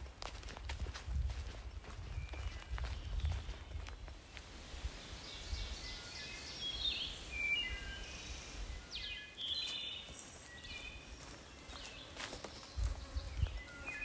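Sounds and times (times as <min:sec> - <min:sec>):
songbirds chirping: 0:01.5 - 0:14.0.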